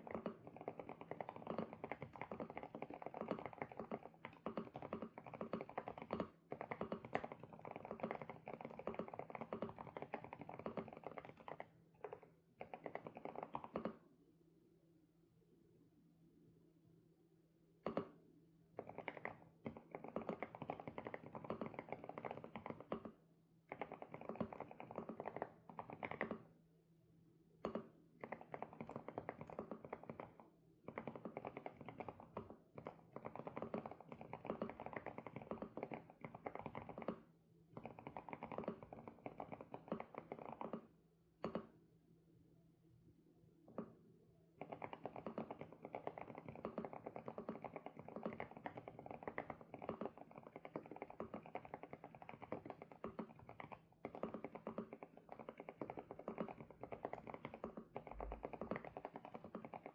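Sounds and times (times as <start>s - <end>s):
mechanical keyboard typing: 0.0s - 14.0s, 18.8s - 23.1s, 23.7s - 26.4s, 27.7s - 37.2s, 37.8s - 40.8s, 44.6s - 59.9s.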